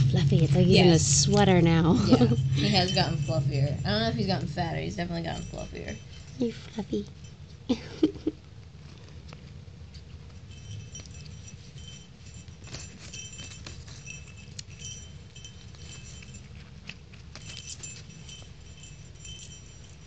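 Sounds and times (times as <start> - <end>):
small bell jingling: 0.0 - 9.1, 9.9 - 20.0.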